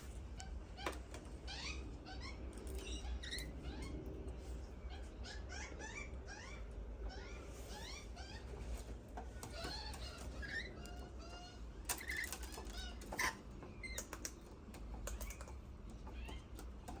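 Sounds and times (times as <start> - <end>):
birds chirping: 0.3 - 17.0.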